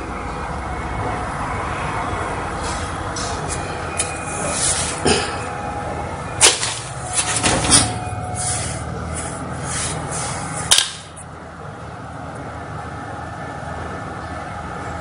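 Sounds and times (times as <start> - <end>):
computer fan hum: 0.0 - 15.0.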